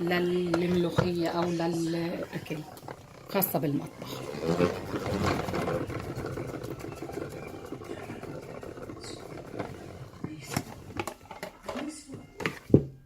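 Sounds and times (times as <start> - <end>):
salad spinner whirring: 0.0 - 11.4.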